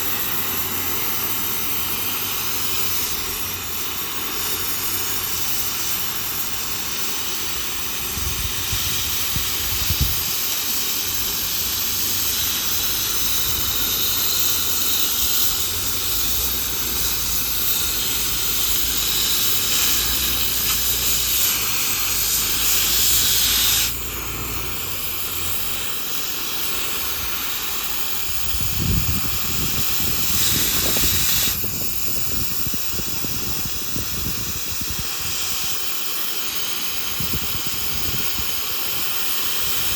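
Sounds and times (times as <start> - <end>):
gas cutting torch hissing: 0.0 - 39.9.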